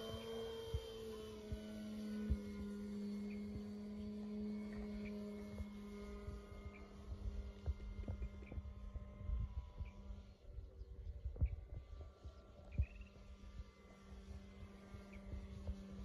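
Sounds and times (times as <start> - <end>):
model plane motor humming: 0.0 - 16.0.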